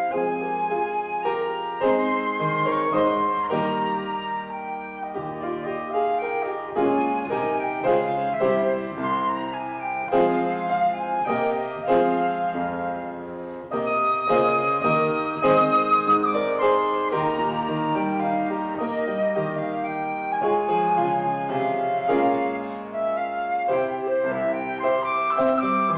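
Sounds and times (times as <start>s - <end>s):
flute melody: 0.0s - 25.9s
piano accompaniment: 0.0s - 25.9s.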